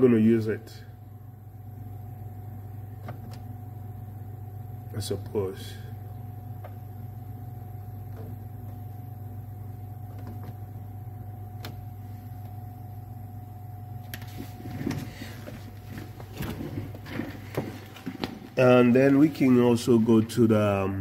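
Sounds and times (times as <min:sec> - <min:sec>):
electrical hum from control panel: 0:00.0 - 0:21.0.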